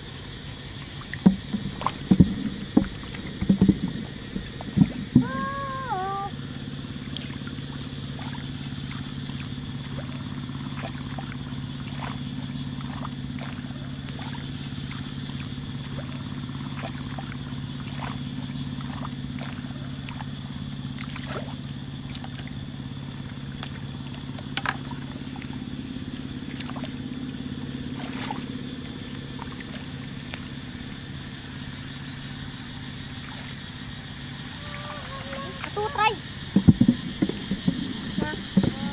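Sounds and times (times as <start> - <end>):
low motor-like drone: 0.0 - 38.9.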